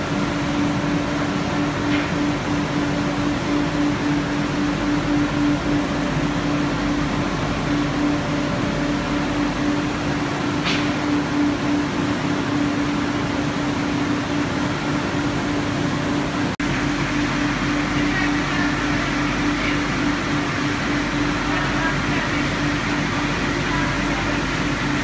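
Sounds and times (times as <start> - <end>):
machine humming and hissing: 0.0 - 25.0.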